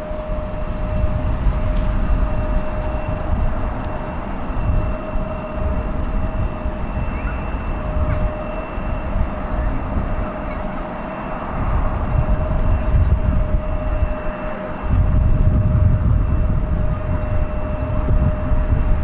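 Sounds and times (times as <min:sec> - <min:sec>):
jet engines roaring and whining: 0:00.0 - 0:19.0.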